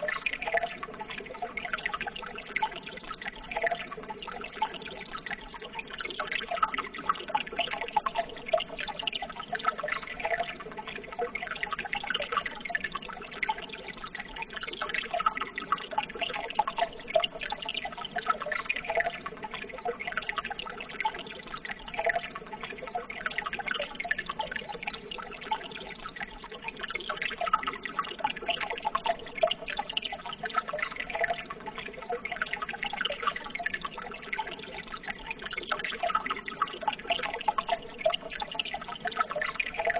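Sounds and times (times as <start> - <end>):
running water babbling: 0.0 - 39.9
small splashes and drips: 0.0 - 39.9.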